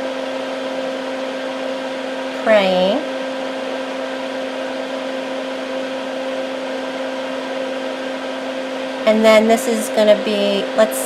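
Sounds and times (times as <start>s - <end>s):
smoke absorber fan humming: 0.0s - 11.0s.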